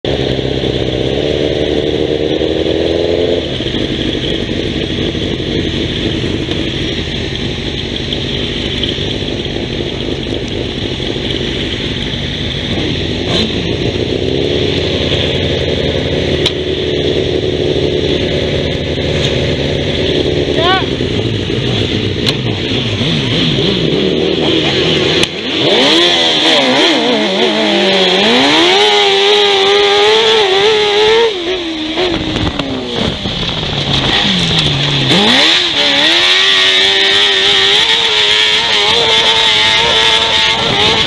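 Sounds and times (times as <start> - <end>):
racing engines revving: 0.1 - 41.0.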